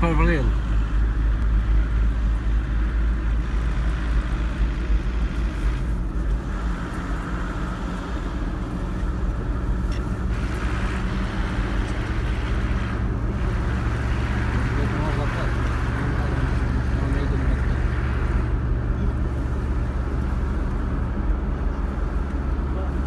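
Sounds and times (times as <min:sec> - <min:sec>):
engine and tyre rumble: 0:00.0 - 0:23.0
faint engine hum: 0:00.0 - 0:23.0.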